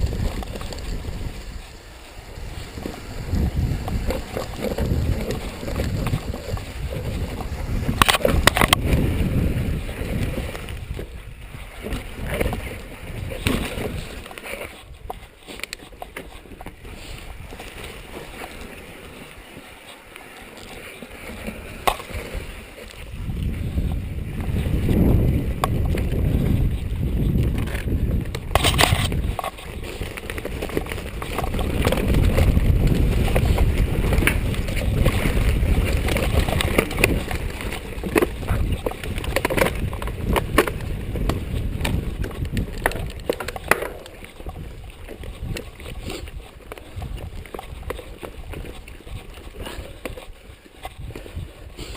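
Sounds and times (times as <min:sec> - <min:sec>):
knocks and rattles of bike: 0:00.0 - 0:51.9
mountain bike rolling over rough trail: 0:00.0 - 0:51.9.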